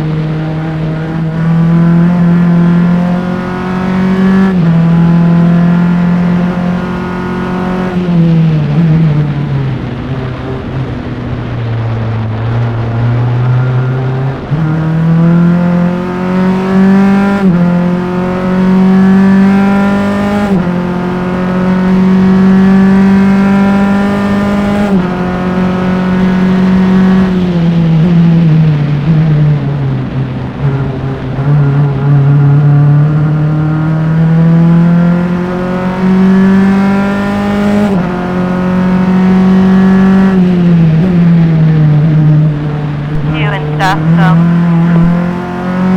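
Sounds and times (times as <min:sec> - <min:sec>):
race car engine at speed: 0:00.0 - 0:45.9.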